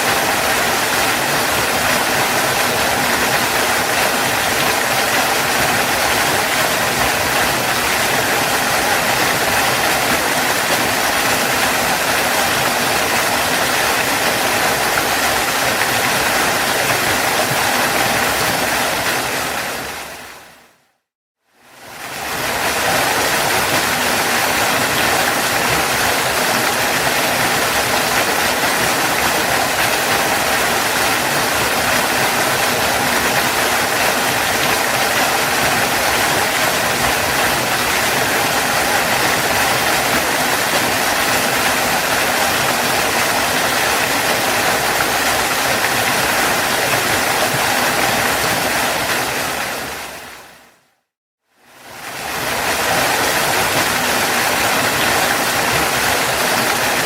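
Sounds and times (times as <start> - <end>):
waterfall roaring: 0.0 - 20.8, 21.8 - 50.8, 51.8 - 57.0.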